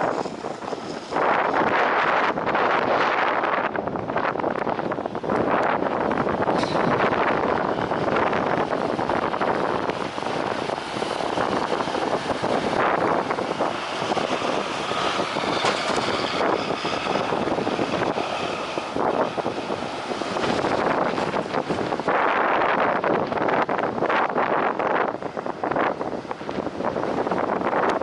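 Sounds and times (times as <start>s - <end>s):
jet engines running: 0.0s - 24.3s
wind noise on microphone: 0.0s - 28.0s.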